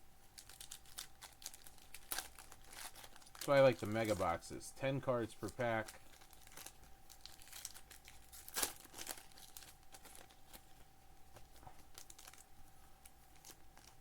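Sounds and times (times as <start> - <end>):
foil wrapper crinkling and tearing: 0.3 - 14.0.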